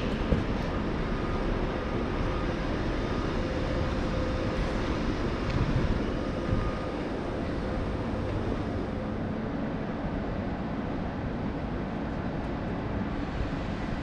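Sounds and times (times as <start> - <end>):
faint steady whine: 0.0 - 14.0
train rolling rumble: 0.0 - 14.0.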